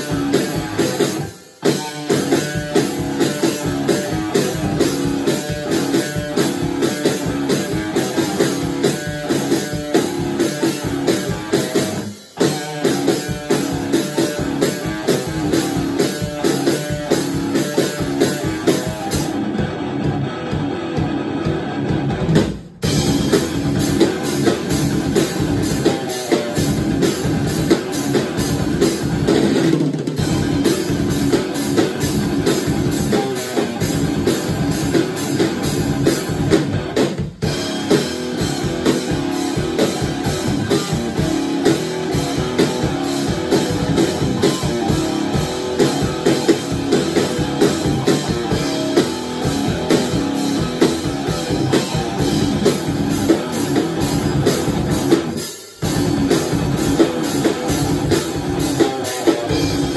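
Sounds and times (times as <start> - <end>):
drum kit rock beat: 0.0 - 59.9
rock band playing: 0.0 - 59.9.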